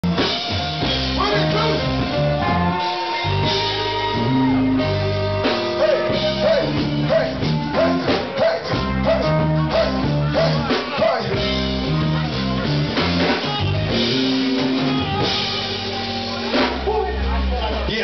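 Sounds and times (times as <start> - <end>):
live band playing: 0.0 - 18.0.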